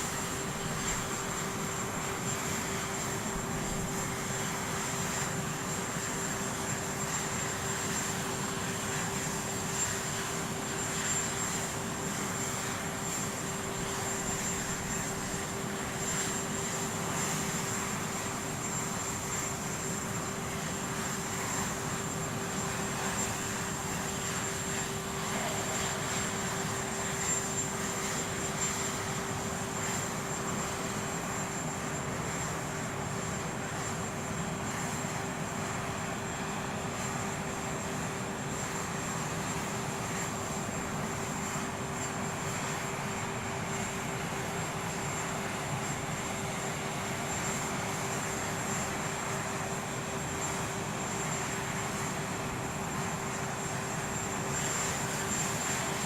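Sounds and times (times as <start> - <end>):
aircraft engines running: 0.0 - 56.0.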